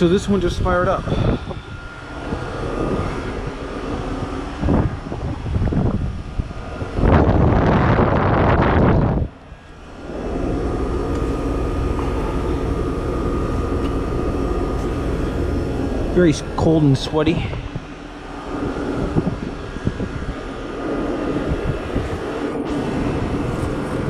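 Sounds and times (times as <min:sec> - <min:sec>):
heat pump humming: 0:00.0 - 0:24.0.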